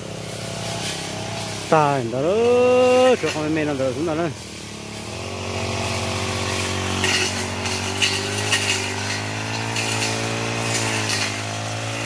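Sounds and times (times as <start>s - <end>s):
brush cutter engine running: 0.0s - 12.0s
cutter slashing grass: 0.0s - 12.0s.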